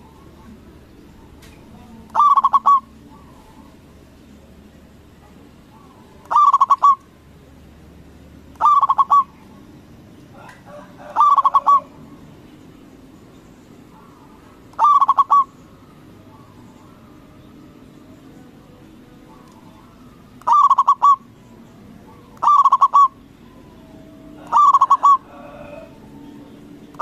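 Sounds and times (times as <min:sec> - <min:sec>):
dove cooing: 0:00.0 - 0:04.7, 0:05.4 - 0:07.4, 0:08.5 - 0:12.3, 0:13.8 - 0:27.0.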